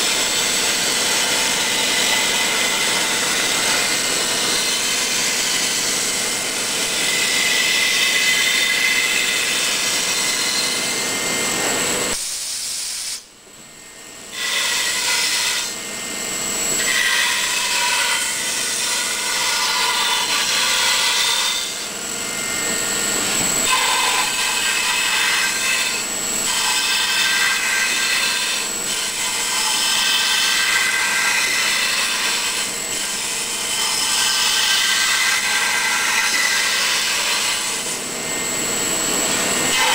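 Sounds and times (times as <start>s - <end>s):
milling machine cutting styrofoam: 0.0s - 11.7s, 14.3s - 39.9s.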